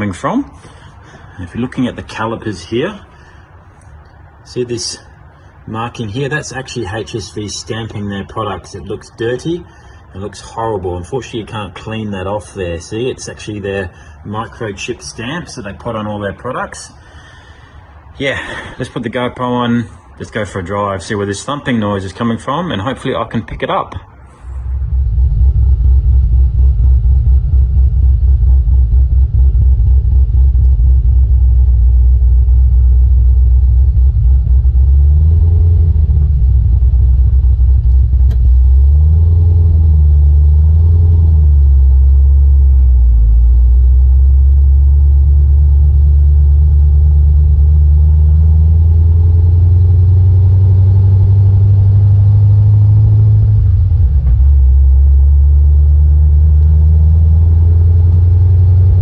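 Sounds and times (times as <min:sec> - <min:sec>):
road and tyre rumble: 0:00.0 - 0:59.0.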